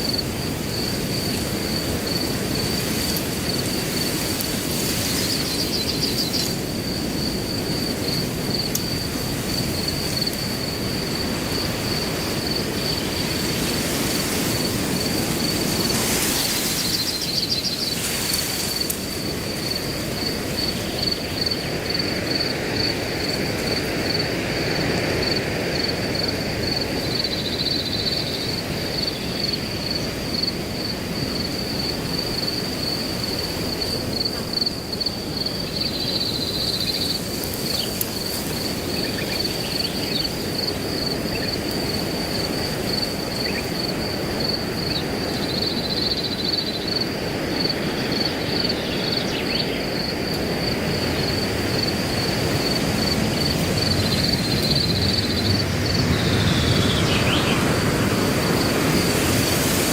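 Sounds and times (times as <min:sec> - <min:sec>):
cricket chirping: 0:00.0 - 0:59.9
wind blowing through grass: 0:00.0 - 0:59.9.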